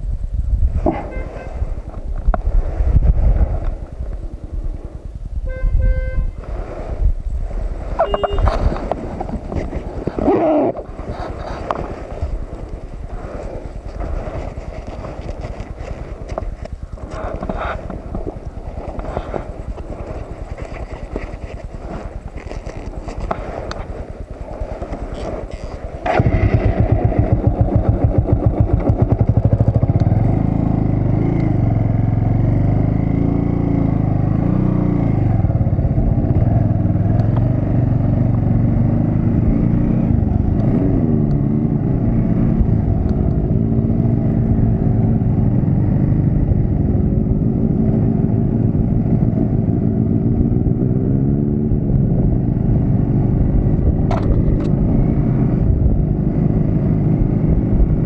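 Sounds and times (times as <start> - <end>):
motorcycle engine revving: 6.4 - 58.0.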